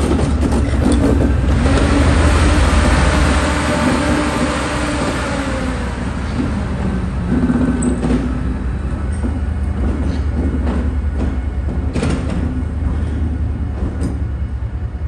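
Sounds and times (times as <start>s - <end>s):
wheels clicking on track: 0.0s - 14.3s
diesel locomotive engine drone: 0.0s - 15.0s.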